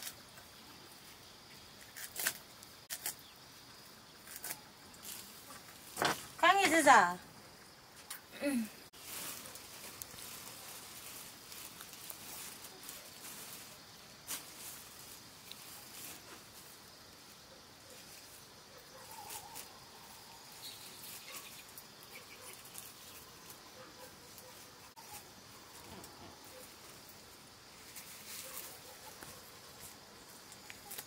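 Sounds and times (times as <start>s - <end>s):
leafy greens rustling: 0.0s - 3.5s, 4.2s - 7.1s, 8.0s - 31.0s.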